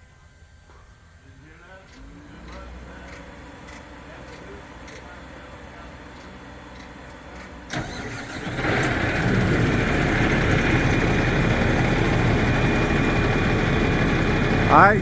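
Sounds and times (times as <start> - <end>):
truck engine starting and running: 1.6 - 15.0.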